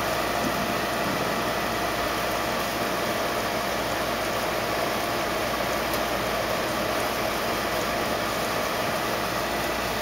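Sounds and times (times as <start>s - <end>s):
steady hiss and hum: 0.0s - 10.0s.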